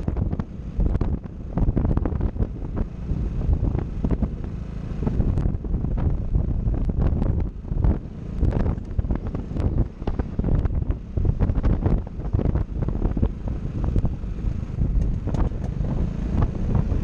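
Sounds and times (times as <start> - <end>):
scooter running: 0.0 - 17.0
wind buffeting microphone: 0.0 - 17.0.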